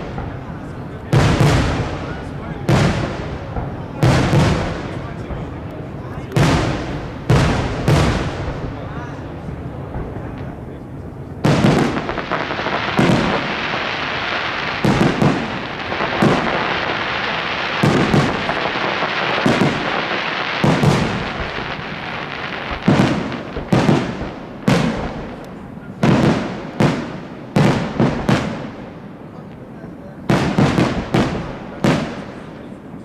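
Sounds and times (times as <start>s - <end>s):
continuous hissing rush: 0.0s - 27.6s
firework shells bursting: 0.0s - 28.9s.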